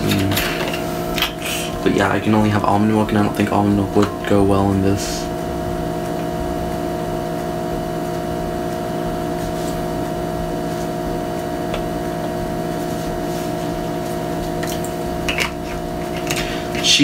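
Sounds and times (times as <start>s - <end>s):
electrical motor hum: 0.0s - 17.0s.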